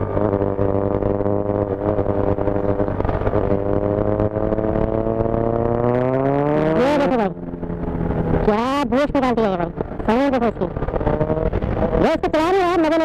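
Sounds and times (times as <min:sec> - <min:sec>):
motorcycle engine running: 0:00.0 - 0:13.0
road and wind rumble: 0:00.0 - 0:13.0.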